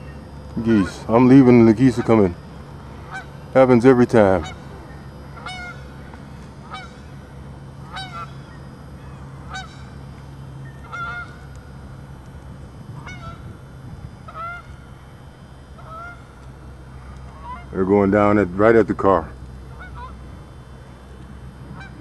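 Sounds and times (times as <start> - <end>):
geese honking in flight: 0.0 - 10.0, 10.7 - 11.6, 12.8 - 13.6, 14.2 - 19.1, 19.7 - 20.4, 21.5 - 22.0
steady low hum: 0.0 - 22.0.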